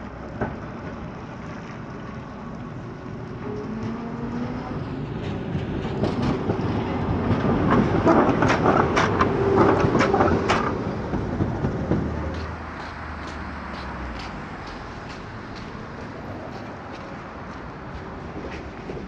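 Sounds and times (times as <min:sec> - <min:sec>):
tram rumbling past: 0:00.0 - 0:19.0.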